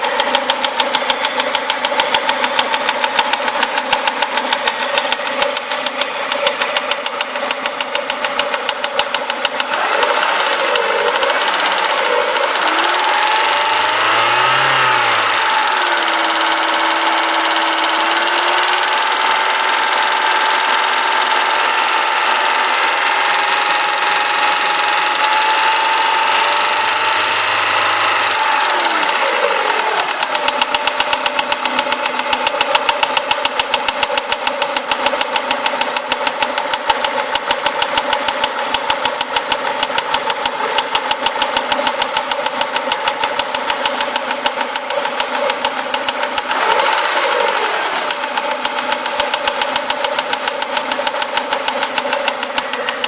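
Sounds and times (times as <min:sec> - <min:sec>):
car engine revving and idling: 0:00.0 - 0:53.0.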